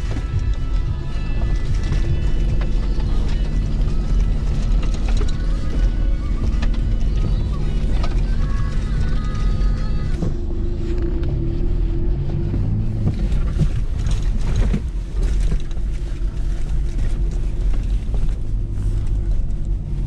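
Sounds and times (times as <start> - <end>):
knocks and rattles: 0.0 - 10.5, 12.6 - 19.7
engine and driveline rumble: 0.0 - 20.0.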